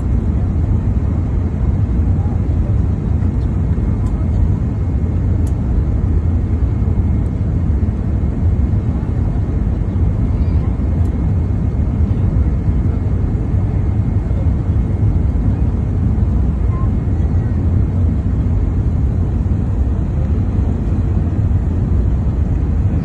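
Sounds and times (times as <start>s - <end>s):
aircraft engines rumbling: 0.0s - 23.0s.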